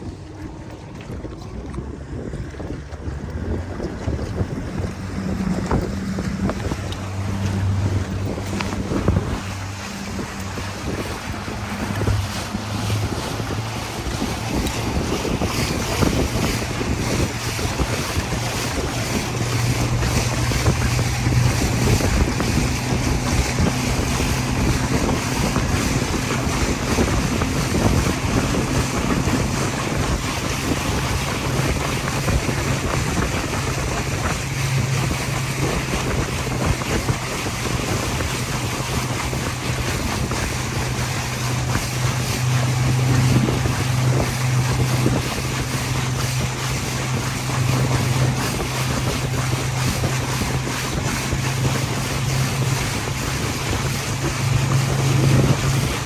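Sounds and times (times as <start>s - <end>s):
motorboat engine hum: 0.0s - 56.0s
rushing water: 0.0s - 56.0s
wind buffeting microphone: 0.0s - 56.0s.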